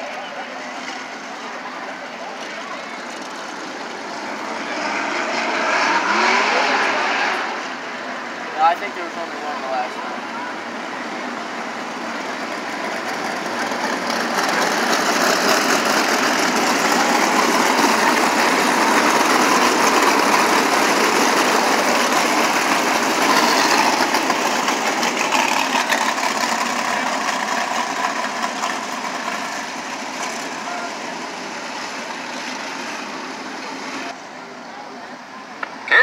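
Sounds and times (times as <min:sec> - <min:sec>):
race car engines passing: 0:00.0 - 0:36.0.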